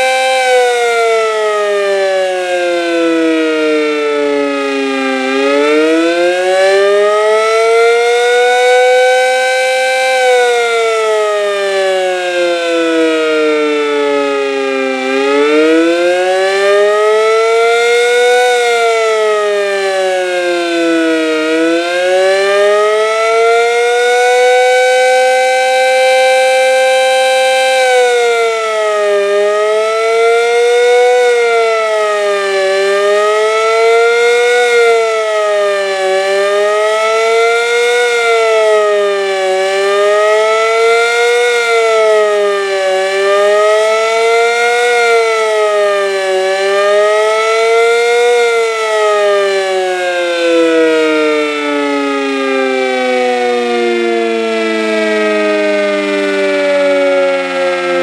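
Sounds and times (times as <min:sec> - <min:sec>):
siren wailing: 0:00.0 - 0:58.0.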